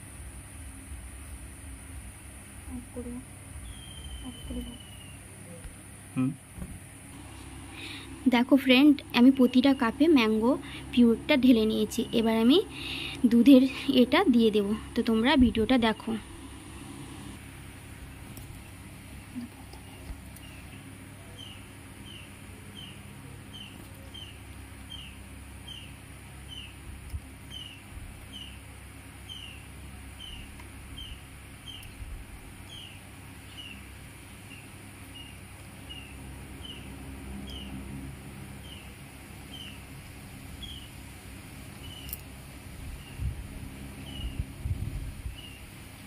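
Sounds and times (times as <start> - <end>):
faint high hiss: 0.0 - 46.0.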